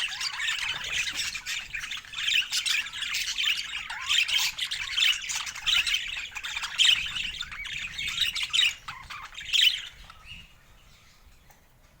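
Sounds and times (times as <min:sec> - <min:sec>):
parakeet squawking and chirping: 0:00.0 - 0:10.6.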